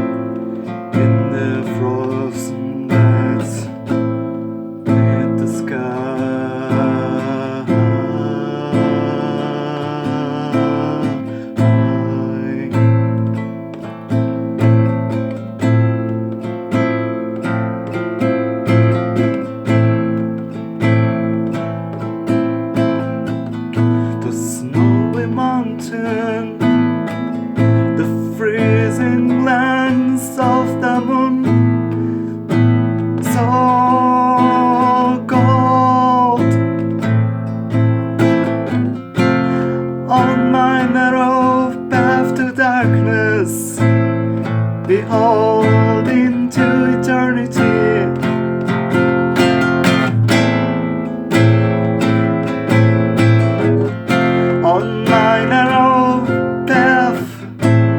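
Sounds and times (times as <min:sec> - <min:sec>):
classical guitar melody: 0:00.0 - 0:57.9
wordless singing with vibrato: 0:00.0 - 0:57.9.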